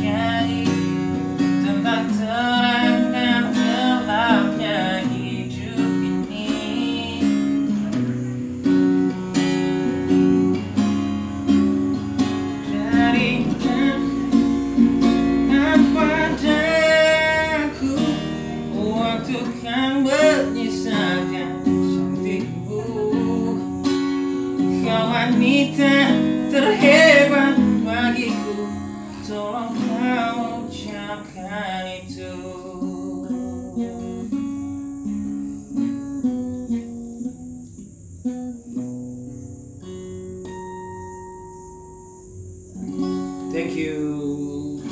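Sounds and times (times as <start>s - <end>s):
wordless singing: 0.0s - 37.8s, 42.7s - 44.9s
acoustic guitar strumming: 0.0s - 44.9s.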